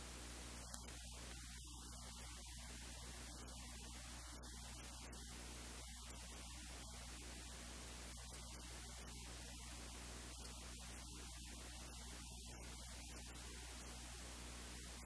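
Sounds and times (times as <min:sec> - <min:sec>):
low electrical hum: 0:00.0 - 0:15.0
static hiss: 0:00.0 - 0:15.0.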